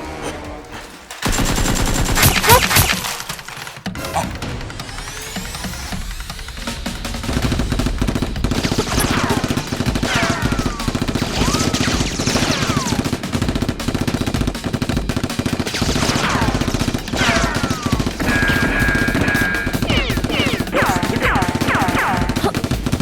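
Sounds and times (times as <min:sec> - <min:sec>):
rapid automatic gunfire: 0:01.0 - 0:23.0.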